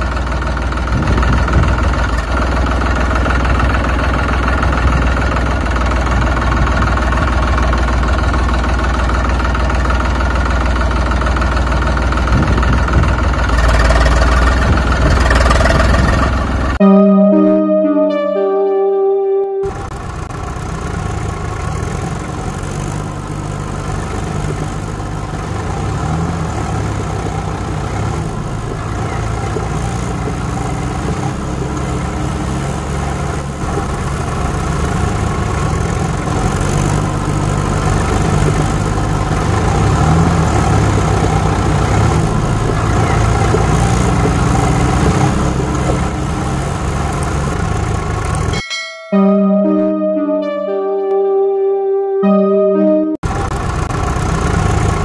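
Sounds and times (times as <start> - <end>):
vehicle engine idling: 0.0 - 16.8, 19.8 - 48.5, 53.2 - 55.0.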